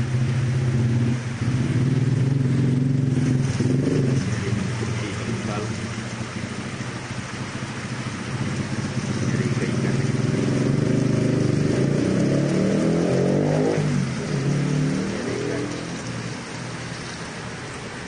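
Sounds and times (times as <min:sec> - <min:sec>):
vehicle engine revving: 0:00.0 - 0:17.6.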